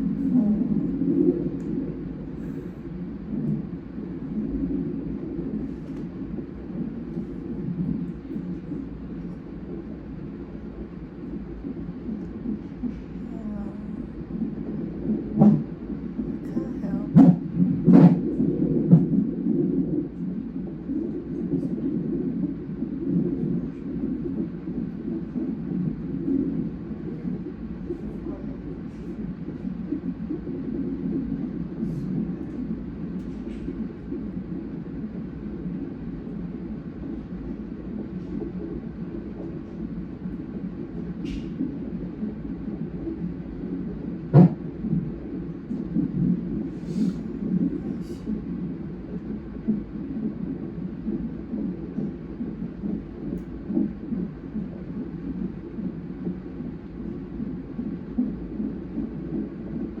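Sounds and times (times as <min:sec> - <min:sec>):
whooshing fetal heartbeat: 0:00.0 - 1:00.0.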